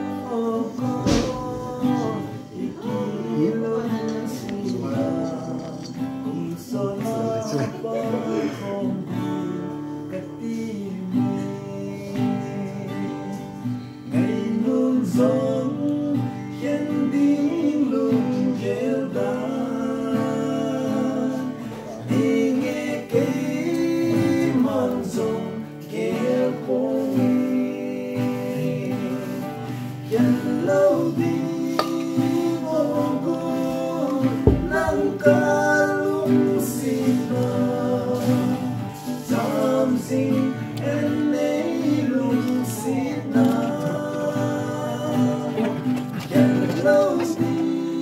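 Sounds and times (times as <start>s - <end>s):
acoustic guitar: 0.0s - 48.0s
man singing: 0.0s - 48.0s.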